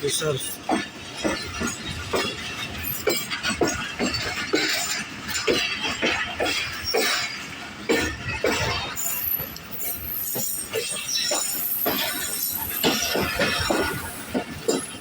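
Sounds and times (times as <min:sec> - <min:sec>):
metallic clanks of train coach: 0:00.0 - 0:15.0
train running rumble: 0:00.0 - 0:15.0.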